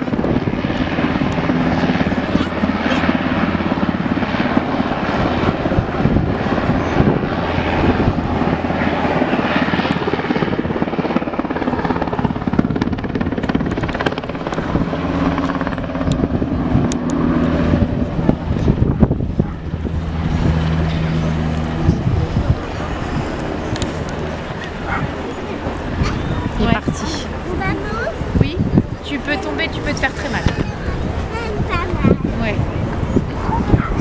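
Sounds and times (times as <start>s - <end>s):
aircraft engine overhead: 0.0s - 34.0s.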